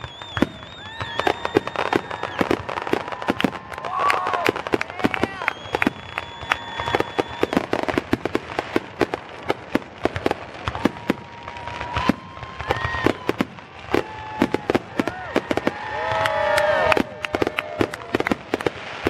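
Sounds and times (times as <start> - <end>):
fireworks bangs: 0.0 - 19.0
whistling firework shells: 0.0 - 19.0.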